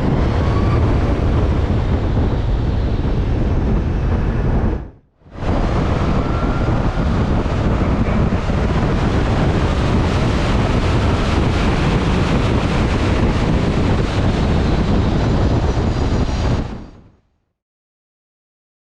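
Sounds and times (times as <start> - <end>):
wind buffeting microphone: 0.0 - 17.2.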